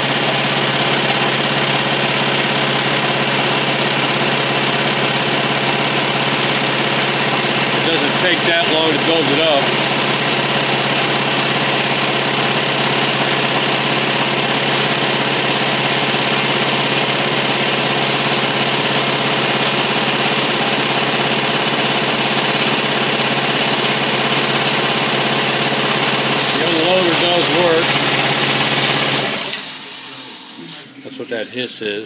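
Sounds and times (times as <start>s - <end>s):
air compressor running: 0.0s - 32.0s.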